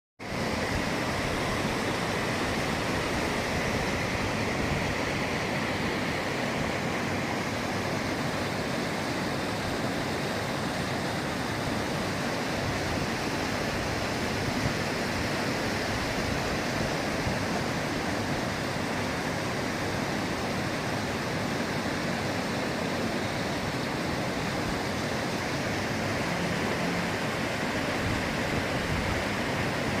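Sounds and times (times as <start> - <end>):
stream water rushing: 0.2 - 30.0.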